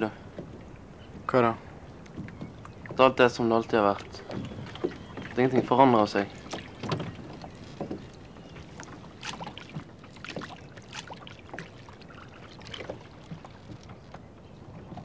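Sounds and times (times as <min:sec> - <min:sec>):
people wading in water: 0:00.0 - 0:15.0
water splashing: 0:00.0 - 0:15.0.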